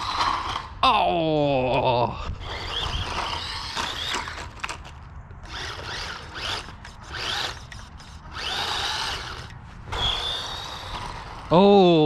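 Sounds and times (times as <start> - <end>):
toy car electric motor whining: 0.0 - 0.7, 2.3 - 11.7.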